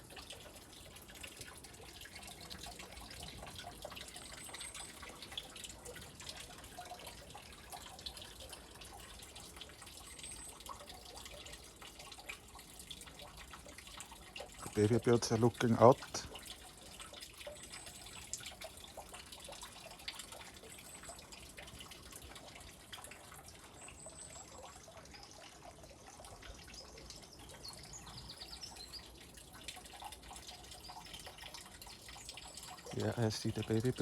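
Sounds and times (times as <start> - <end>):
spring water trickling: 0.0 - 34.0.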